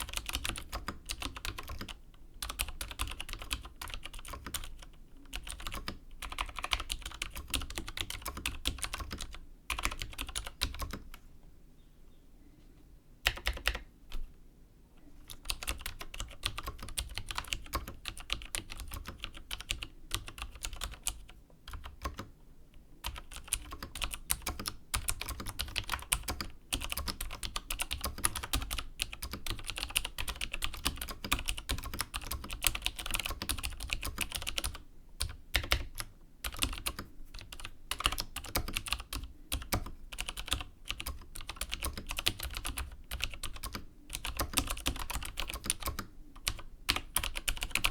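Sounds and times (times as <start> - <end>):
mechanical keyboard typing: 0.0 - 11.1, 13.2 - 14.3, 15.3 - 22.3, 23.0 - 47.9.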